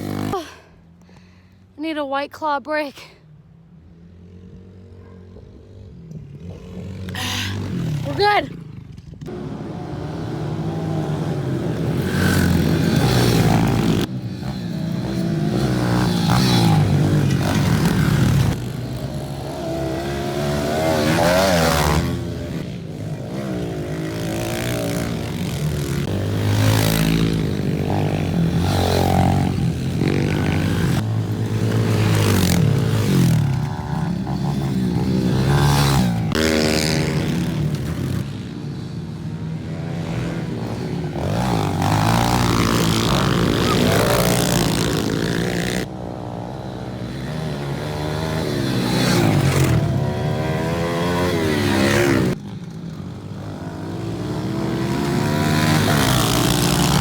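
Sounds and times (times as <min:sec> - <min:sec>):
pit bike engines revving: 0:00.0 - 0:00.6, 0:03.7 - 0:57.0.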